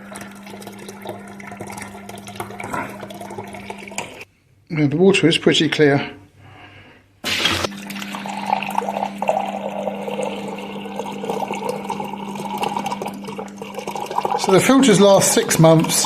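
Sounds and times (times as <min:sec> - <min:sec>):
dispenser hum: 0:00.0 - 0:04.3, 0:07.2 - 0:16.0
water pouring into a container: 0:00.0 - 0:04.3, 0:07.2 - 0:16.0.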